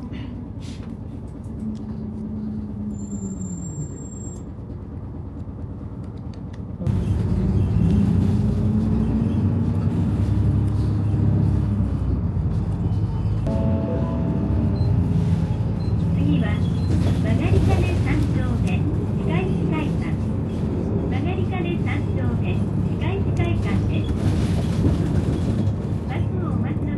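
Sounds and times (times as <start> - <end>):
vehicle engine and road rumble: 0.0 - 26.9.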